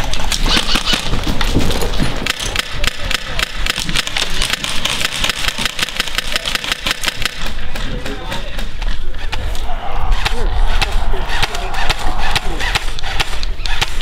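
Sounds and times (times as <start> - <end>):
airsoft guns firing: 0.0 - 14.0.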